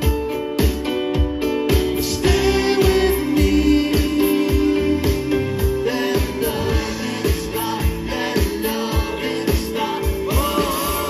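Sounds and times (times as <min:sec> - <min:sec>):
live pop-rock band playing: 0:00.0 - 0:11.0
steady drum beat: 0:00.0 - 0:11.0.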